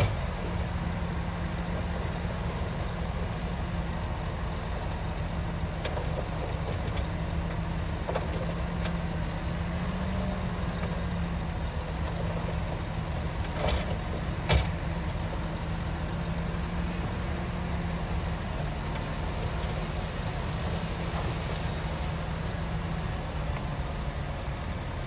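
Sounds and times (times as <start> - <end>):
diesel machinery running: 0.0 - 25.0.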